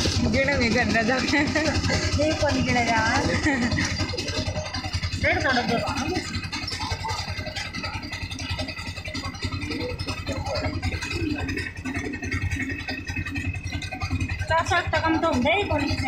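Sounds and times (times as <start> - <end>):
faint voices: 0.0 - 16.0
motorcycle engines idling: 0.0 - 16.0.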